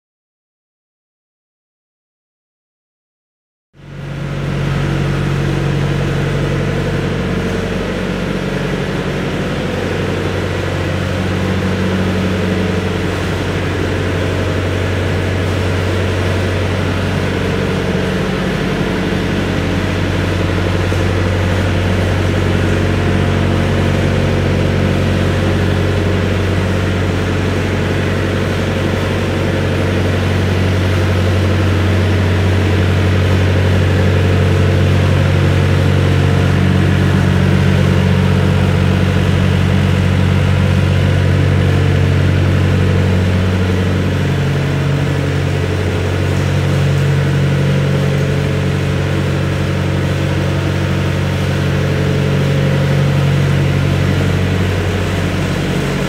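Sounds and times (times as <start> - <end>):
diesel engine idling: 3.8 - 56.0.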